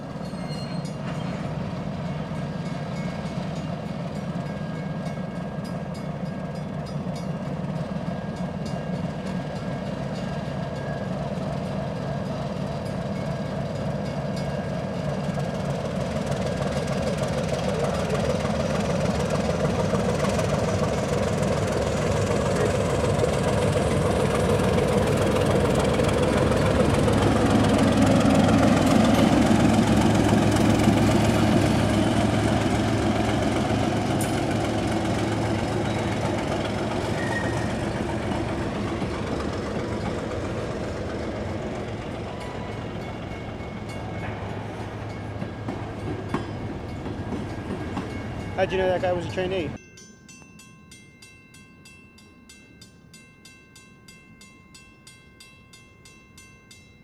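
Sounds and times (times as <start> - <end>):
diesel locomotive engine running: 0.0 - 49.8.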